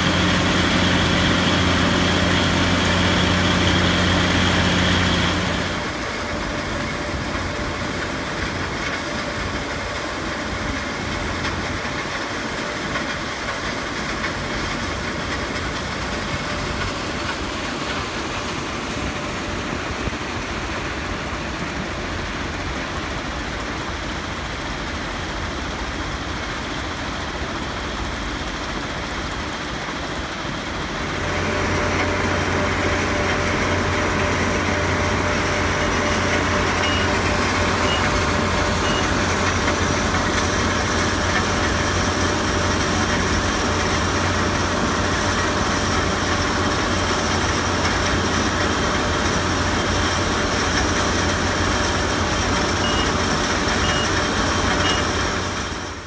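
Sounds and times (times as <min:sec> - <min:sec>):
heavy track machinery: 0:00.0 - 0:56.0.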